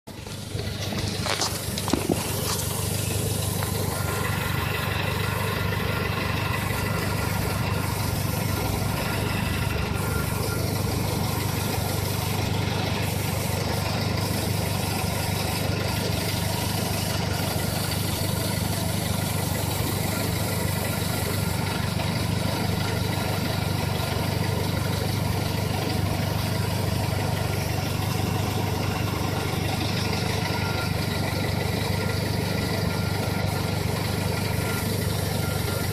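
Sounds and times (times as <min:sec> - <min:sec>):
car engine idling: 0:00.0 - 0:35.9
fuel pump high tones: 0:00.1 - 0:35.9.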